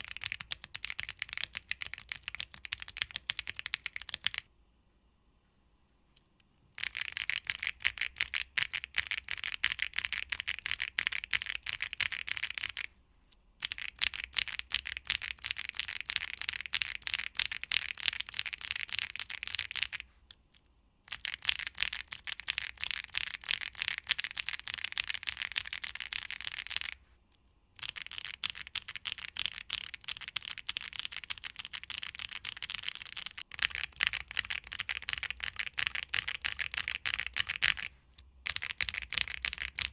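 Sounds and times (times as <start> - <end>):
mechanical keyboard typing: 0.0 - 4.5, 6.8 - 12.9, 13.6 - 20.0, 21.1 - 27.0, 27.8 - 39.9.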